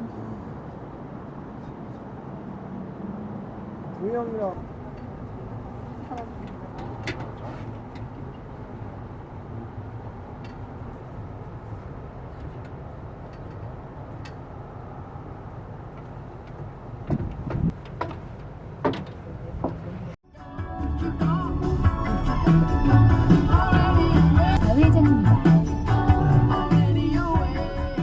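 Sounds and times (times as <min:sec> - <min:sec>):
road and engine rumble in car: 0:00.0 - 0:28.0.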